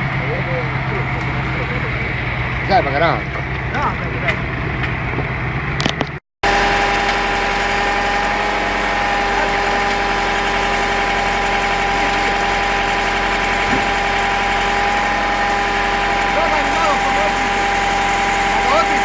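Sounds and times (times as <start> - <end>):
heavy machine engine running: 0.0 - 19.0
steady machine whine: 0.0 - 19.0.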